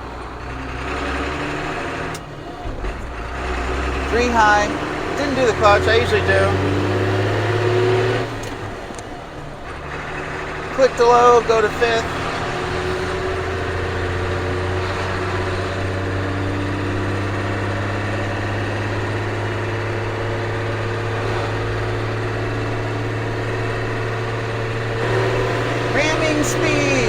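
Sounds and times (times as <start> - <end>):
truck diesel engine under load: 0.0 - 27.0.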